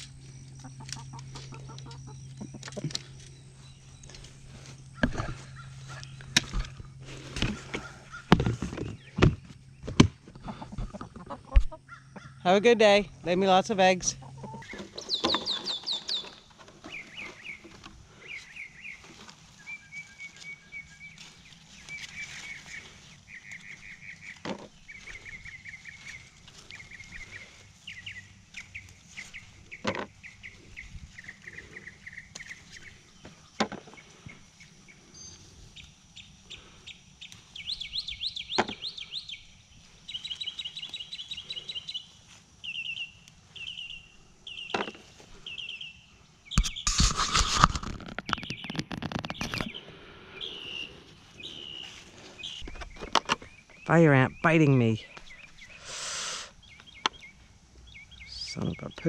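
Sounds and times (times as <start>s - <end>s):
songbirds trilling: 0.0s - 59.0s.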